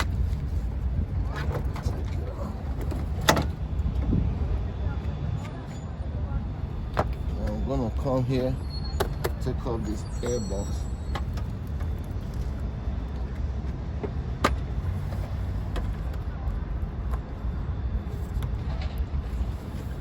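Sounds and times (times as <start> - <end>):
steady low rumble: 0.0 - 10.2, 10.8 - 20.0.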